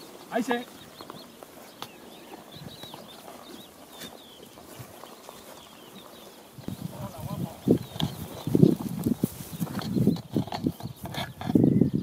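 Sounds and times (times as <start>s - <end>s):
rustling in hay: 0.0s - 10.1s
small birds chirping: 0.0s - 12.0s.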